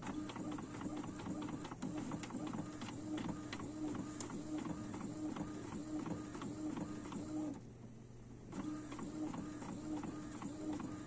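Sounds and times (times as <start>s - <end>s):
inkjet printer printing: 0.0s - 7.7s, 8.5s - 11.0s.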